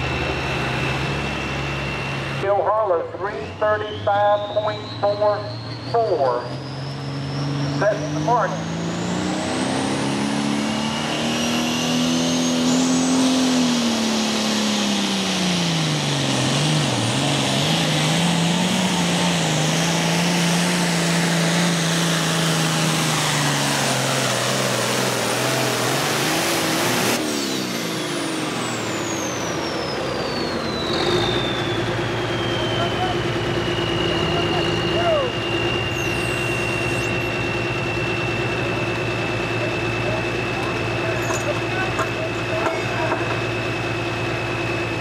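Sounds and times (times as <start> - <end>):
high whistle winding down: 0.0 - 16.0, 17.8 - 45.0
tractor diesel engine at full throttle: 0.0 - 45.0.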